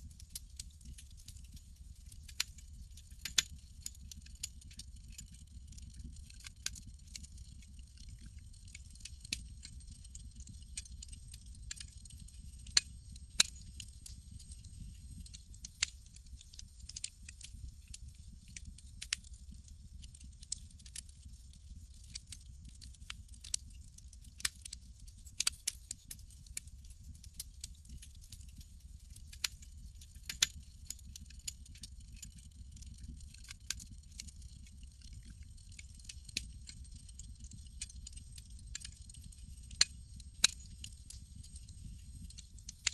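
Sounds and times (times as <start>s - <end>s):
campfire crackling and popping: 0.2s - 2.5s, 3.2s - 26.7s, 27.3s - 42.9s.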